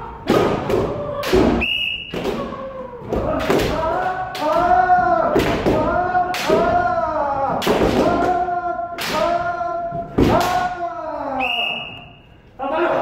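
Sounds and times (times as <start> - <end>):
people shouting yells: 0.0 - 11.4.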